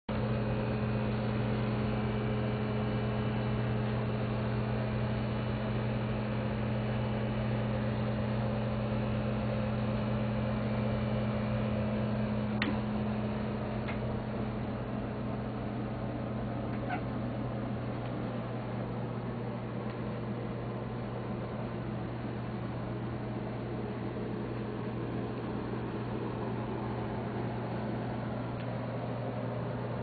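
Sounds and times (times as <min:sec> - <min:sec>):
low hum in boat cabin: 0:00.1 - 0:30.0.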